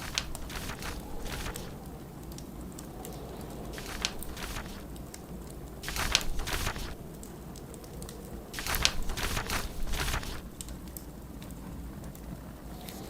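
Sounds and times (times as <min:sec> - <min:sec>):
dry rustling crackling bursts: 0:00.0 - 0:12.4
fireplace crackling: 0:00.0 - 0:13.0
snowstorm wind: 0:00.0 - 0:13.0.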